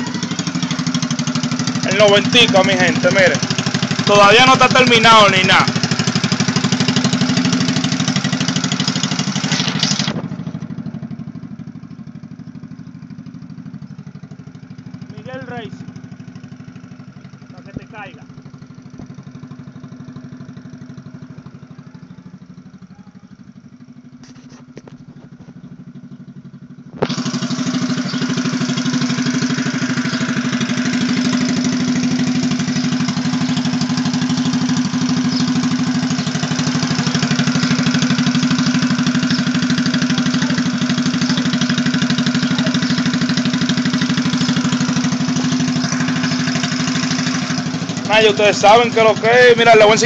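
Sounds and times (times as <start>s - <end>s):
motorcycle engine idling: 0.0s - 50.0s.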